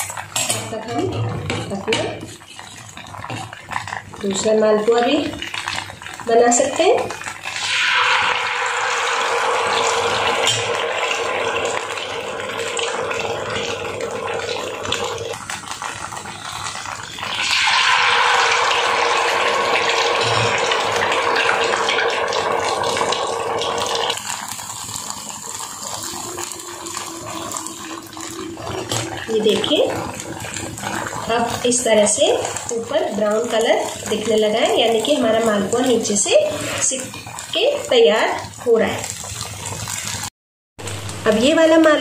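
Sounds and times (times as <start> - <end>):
batter sizzling in hot ghee: 1.6 - 42.0.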